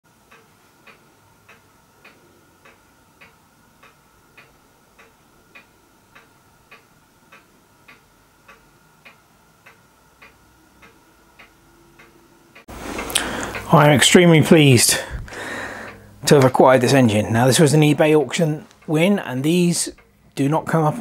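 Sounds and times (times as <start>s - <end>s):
faint steady whine: 0.1s - 21.0s.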